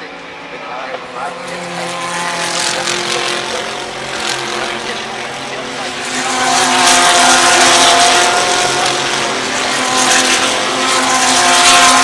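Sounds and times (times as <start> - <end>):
race car engines passing by: 0.0 - 12.0.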